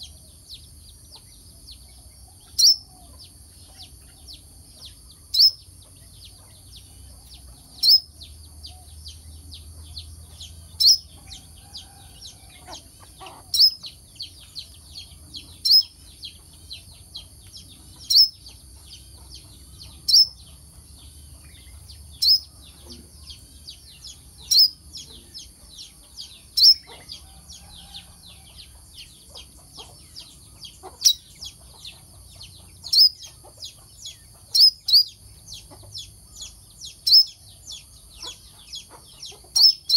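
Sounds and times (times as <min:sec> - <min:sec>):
sunbird sharp high chirp: 0:02.4 - 0:09.2, 0:10.4 - 0:20.5, 0:21.4 - 0:27.2, 0:29.3 - 0:32.0, 0:32.8 - 0:39.9.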